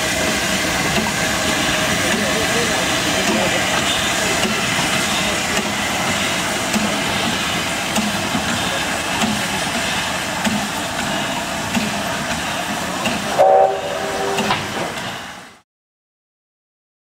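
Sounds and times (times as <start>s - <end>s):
hiss of escaping steam: 0.0s - 15.6s
steam locomotive exhaust chuffs: 0.0s - 15.6s.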